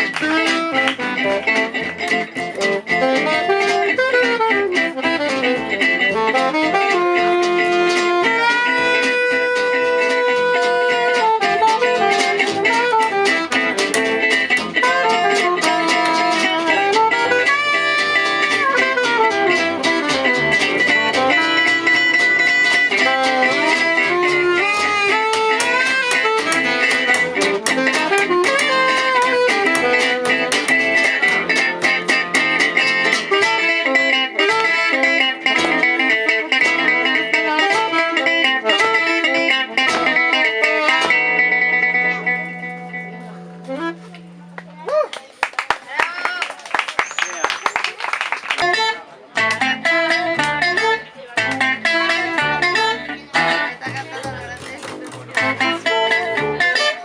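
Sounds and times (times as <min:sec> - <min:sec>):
fast plucked guitar melody: 0:00.0 - 0:44.9, 0:47.0 - 0:57.0
plucked guitar accompaniment: 0:00.0 - 0:46.4, 0:47.0 - 0:57.0.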